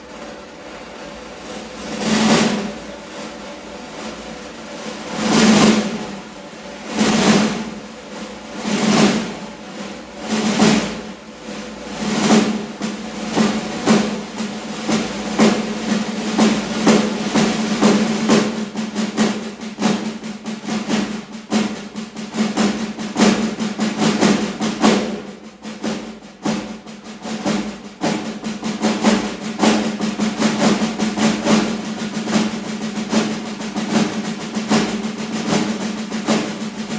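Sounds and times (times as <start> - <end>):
snare drum rolls: 0.0 - 36.9.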